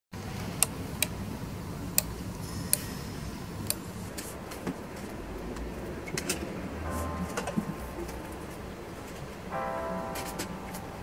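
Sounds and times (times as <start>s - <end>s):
low steady hum: 0.2s - 11.0s.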